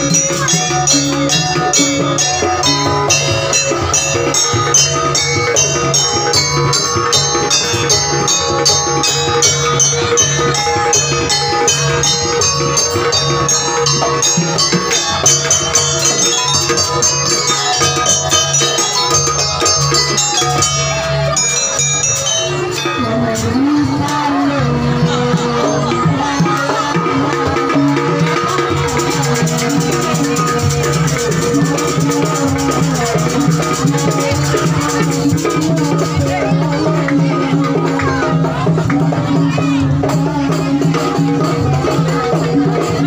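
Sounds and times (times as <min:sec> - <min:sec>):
gamelan music: 0:00.0 - 0:43.0.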